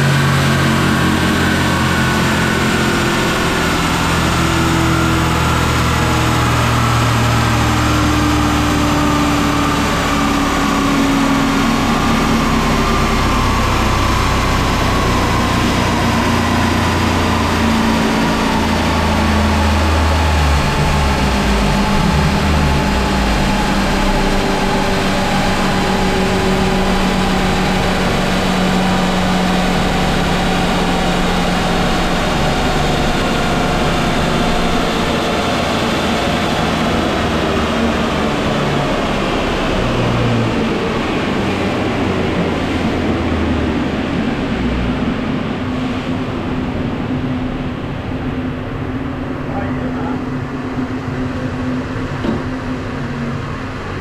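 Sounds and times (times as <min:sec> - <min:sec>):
turbocharged engine running loud: 0:00.0 - 0:54.0.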